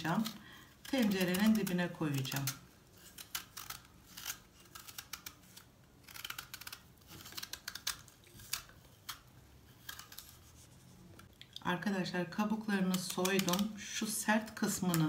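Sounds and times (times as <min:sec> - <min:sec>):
knife scraping fruit skin: 0:00.0 - 0:11.2, 0:12.8 - 0:15.0.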